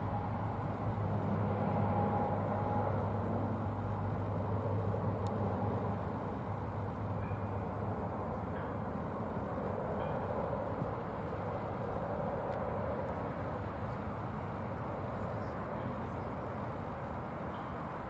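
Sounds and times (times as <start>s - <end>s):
distant turboprop airliner drone: 0.0s - 18.0s.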